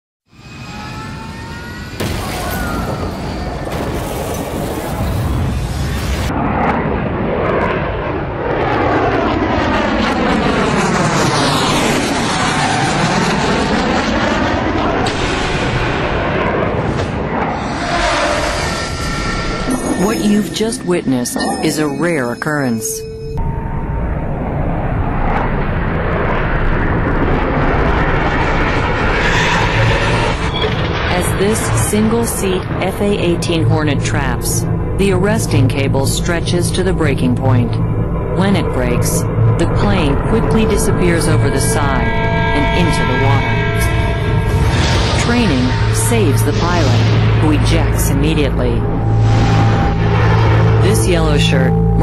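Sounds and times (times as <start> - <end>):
airplane engine in flight: 0.3 - 20.1, 23.3 - 52.0.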